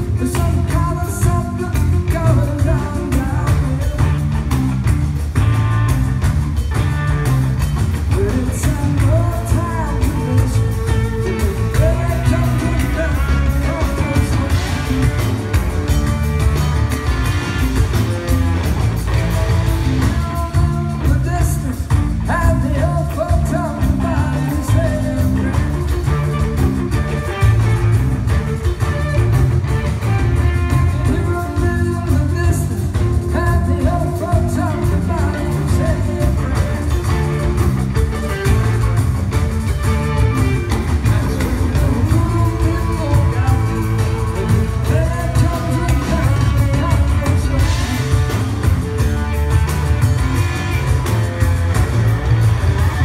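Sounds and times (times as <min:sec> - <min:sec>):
man singing: 0:00.0 - 0:04.6, 0:08.0 - 0:16.4, 0:17.8 - 0:49.6
drum kit: 0:00.0 - 0:53.0
electric guitar: 0:00.0 - 0:53.0.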